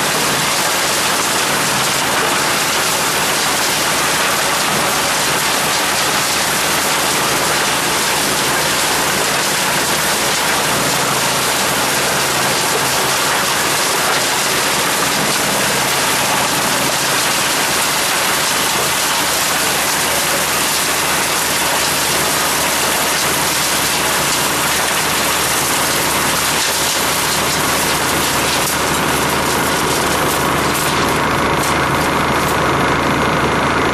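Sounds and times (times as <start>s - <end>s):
wood chipper hissing noise: 0.0s - 33.9s.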